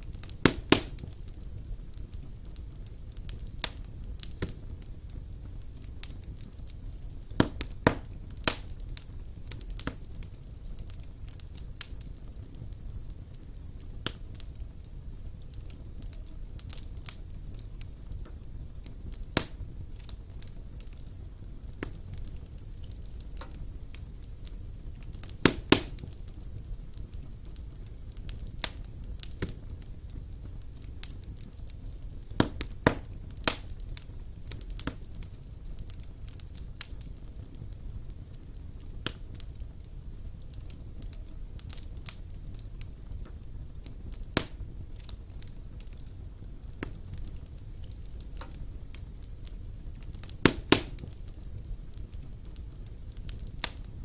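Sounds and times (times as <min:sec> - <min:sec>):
burning logs crackling and popping: 0:00.0 - 0:54.0
low rumble of flame: 0:00.0 - 0:54.0.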